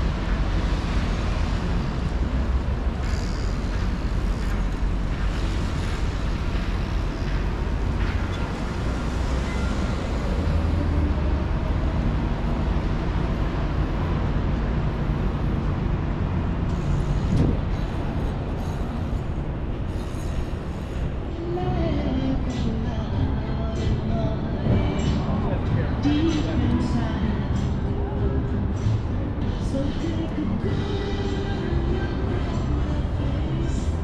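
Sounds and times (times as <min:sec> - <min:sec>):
street traffic passing: 0:00.0 - 0:34.0.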